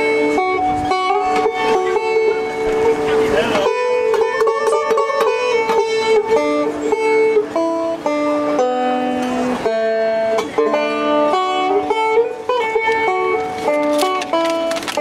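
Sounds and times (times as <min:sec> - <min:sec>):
banjo picking: 0:00.0 - 0:15.0
fiddle: 0:00.0 - 0:15.0
mandolins picking: 0:00.0 - 0:15.0
upright bass: 0:00.0 - 0:15.0.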